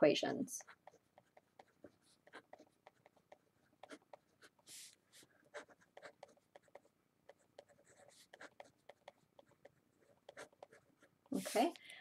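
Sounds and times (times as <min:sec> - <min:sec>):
marker pen scratching on paper: 0:00.6 - 0:11.8.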